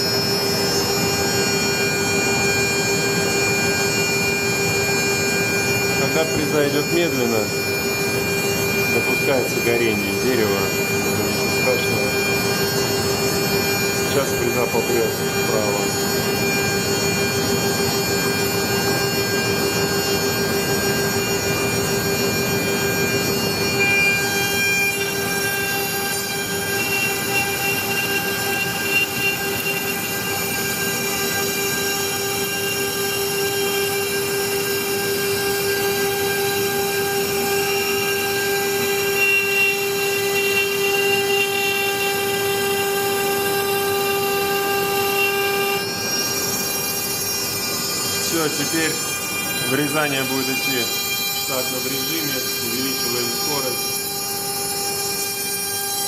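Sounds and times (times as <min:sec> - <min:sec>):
extraction vacuum running: 0:00.0 - 0:56.0
router spindle high whine: 0:00.0 - 0:56.0.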